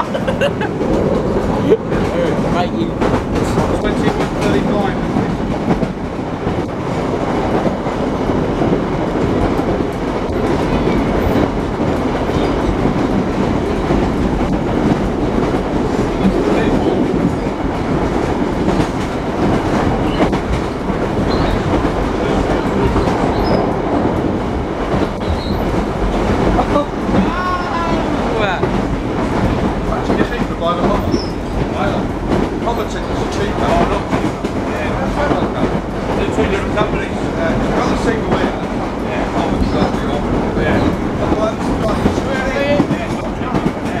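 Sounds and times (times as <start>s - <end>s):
coach rattling: 0.0s - 44.0s
train rumble: 0.0s - 44.0s.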